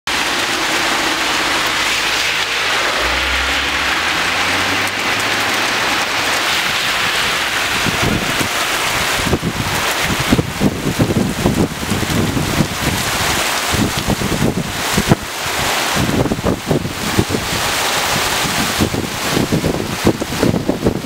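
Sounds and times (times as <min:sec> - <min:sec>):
hail and rain pelting asphalt: 0:00.1 - 0:21.0
wind buffeting microphone: 0:00.1 - 0:21.0.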